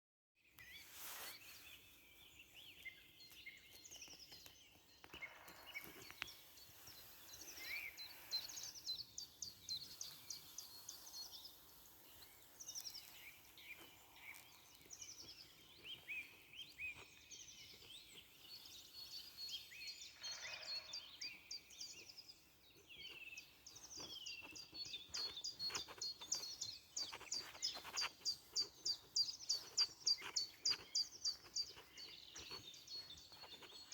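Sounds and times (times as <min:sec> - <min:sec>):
songbirds singing: 0:00.4 - 0:33.9.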